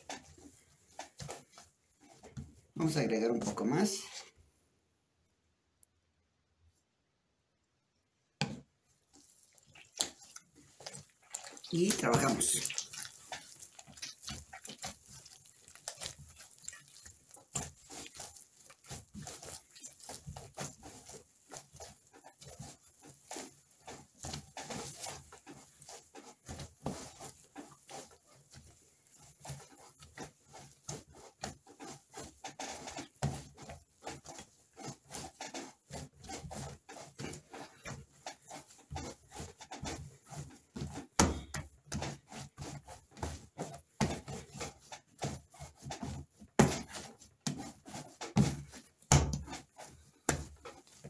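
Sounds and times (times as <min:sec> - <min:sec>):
dough slapping and squelching: 0:00.0 - 0:04.5, 0:08.0 - 0:51.0.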